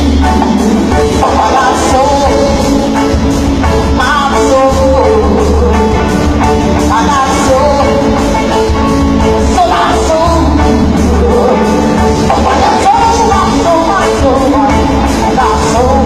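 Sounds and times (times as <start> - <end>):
heavy bass: 0.0 - 16.0
lead singer singing: 0.0 - 16.0
live band playing: 0.0 - 16.0.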